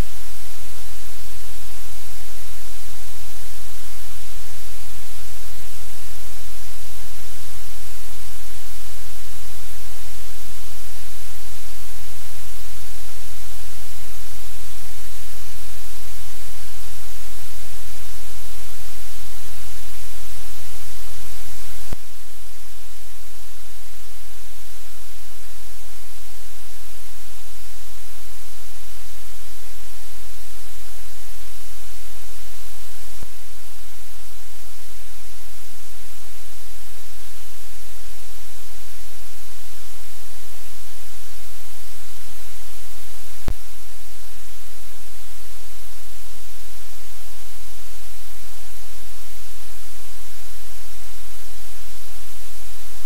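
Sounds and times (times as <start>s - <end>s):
static hiss: 0.0s - 53.0s.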